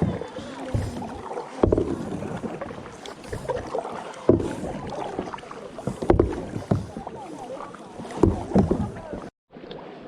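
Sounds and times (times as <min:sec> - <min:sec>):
kayak paddle splashing: 0:00.0 - 0:10.0.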